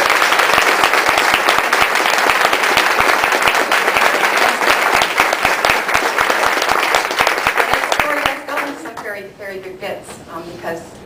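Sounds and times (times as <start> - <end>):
audience applause: 0.0 - 9.0.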